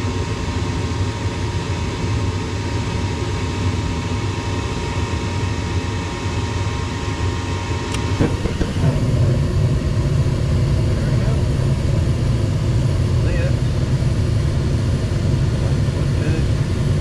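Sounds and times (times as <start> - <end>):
furnace low rumble: 0.0 - 17.0.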